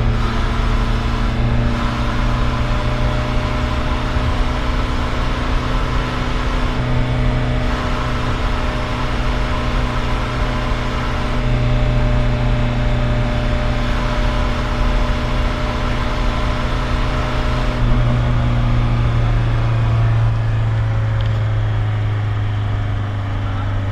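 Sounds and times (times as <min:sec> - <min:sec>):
diesel engine droning: 0:00.0 - 0:23.9.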